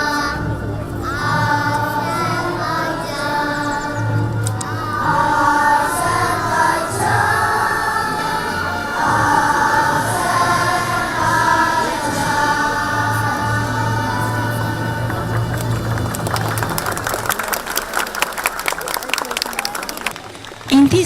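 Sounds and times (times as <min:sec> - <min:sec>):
children's choir singing: 0:00.0 - 0:17.0
instrumental accompaniment: 0:00.0 - 0:17.4.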